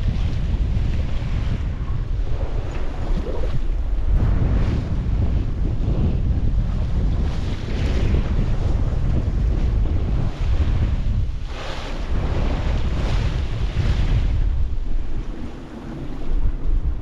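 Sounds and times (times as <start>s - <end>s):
waves rushing past hull: 0.0s - 17.0s
wind buffeting microphone: 0.0s - 17.0s.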